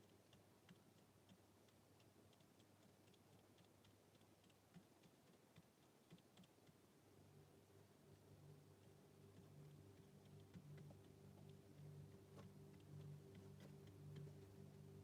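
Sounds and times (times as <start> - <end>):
baby birds pecking: 0.0 - 15.0
low steady hum: 0.0 - 15.0.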